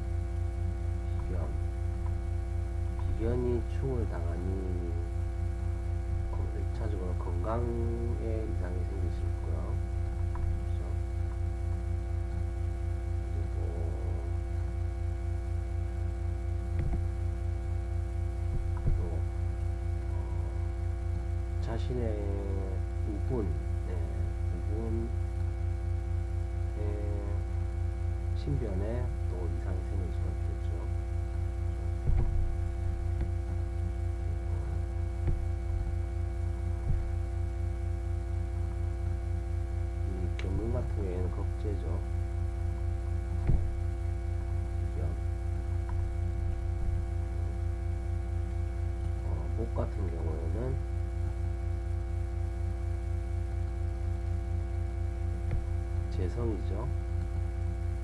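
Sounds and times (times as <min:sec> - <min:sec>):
pulsing electrical hum and buzz: 0:00.0 - 0:58.0.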